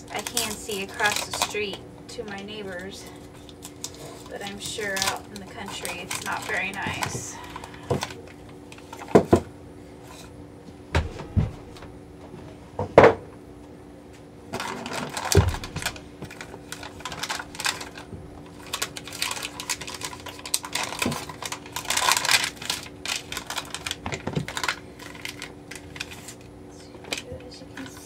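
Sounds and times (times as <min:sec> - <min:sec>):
paper and plastic crinkling: 0:00.0 - 0:09.4, 0:14.5 - 0:28.0
faint steady hum: 0:00.0 - 0:28.0.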